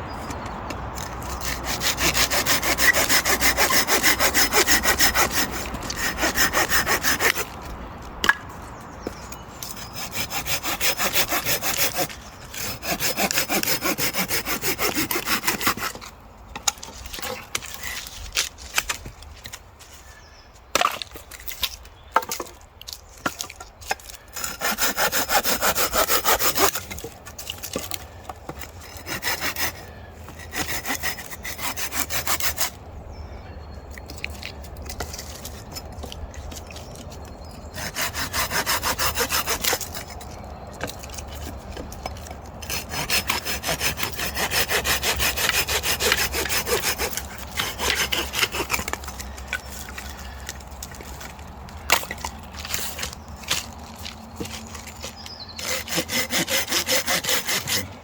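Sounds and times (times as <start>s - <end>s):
hand saw cutting wood: 1.0s - 8.4s, 9.0s - 19.0s, 23.3s - 32.8s, 34.9s - 58.0s.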